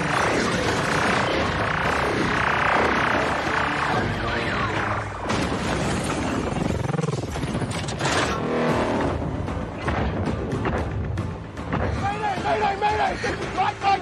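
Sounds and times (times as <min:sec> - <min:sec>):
film music score: 0:00.0 - 0:14.0.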